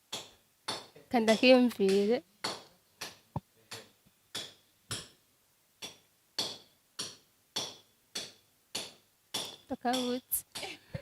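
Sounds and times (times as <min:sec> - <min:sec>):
sharp rhythmic knocking: 0:00.1 - 0:05.2, 0:05.8 - 0:10.7.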